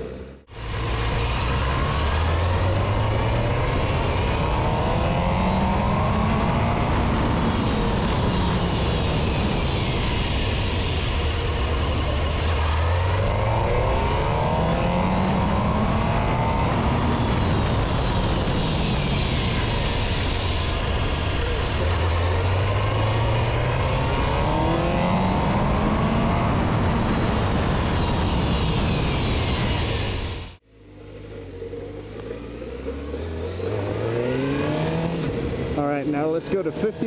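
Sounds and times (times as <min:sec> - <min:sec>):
motorcycle engine revving: 0:00.0 - 0:37.0
wind rush: 0:00.5 - 0:30.6.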